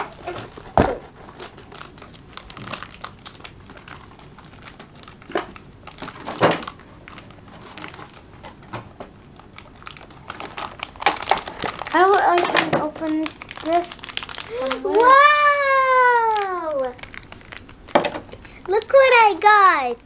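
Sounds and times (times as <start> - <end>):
packaging crinkling: 0.0 - 20.0.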